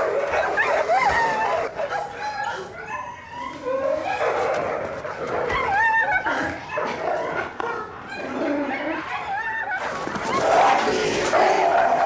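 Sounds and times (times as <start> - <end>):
dogs barking: 0.0 - 12.0
dogs yelping and whining: 0.0 - 12.0.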